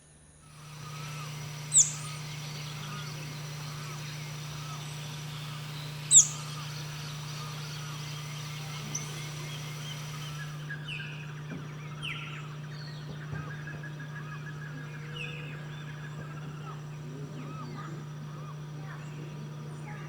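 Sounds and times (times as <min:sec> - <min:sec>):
steady low hum: 0:00.1 - 0:20.0
wild birds chirping: 0:00.4 - 0:20.0.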